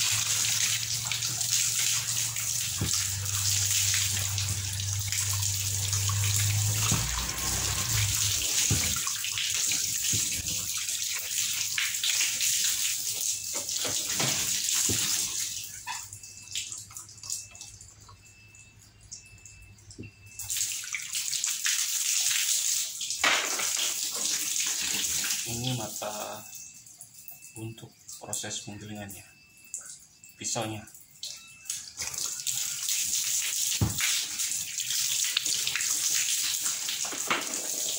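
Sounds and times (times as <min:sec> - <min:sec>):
water running from a hose: 0:00.0 - 0:17.7, 0:20.2 - 0:26.7, 0:31.4 - 0:37.9.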